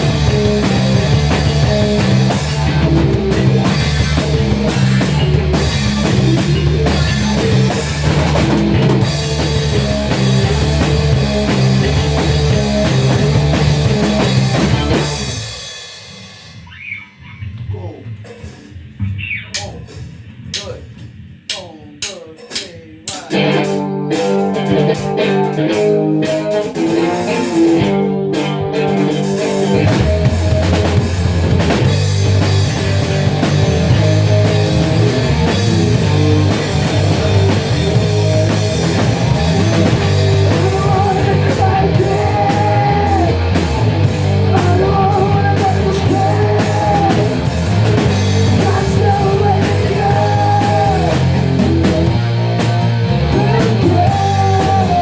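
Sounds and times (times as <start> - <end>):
rock band playing: 0.0 - 17.0, 17.6 - 55.0.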